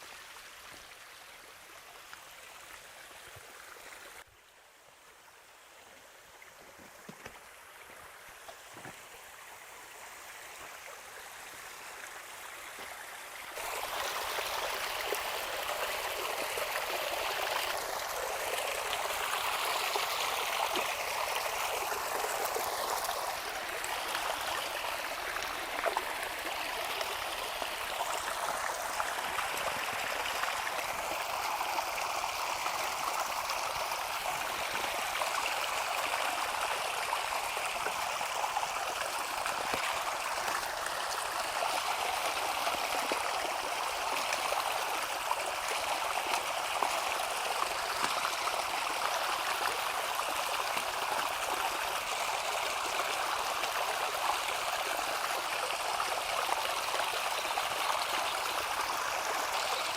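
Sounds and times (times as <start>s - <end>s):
running water rushing: 6.4s - 59.9s.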